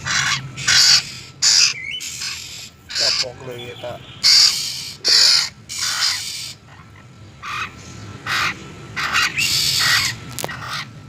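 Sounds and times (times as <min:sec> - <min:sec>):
bird giving harsh raspy calls: 0:00.0 - 0:11.0.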